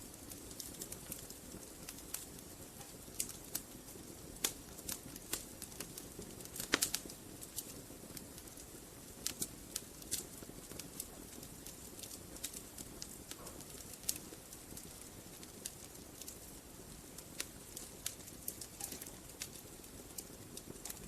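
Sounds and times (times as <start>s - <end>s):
fire crackling and popping: 0.0s - 21.0s
flames hissing: 0.0s - 21.0s.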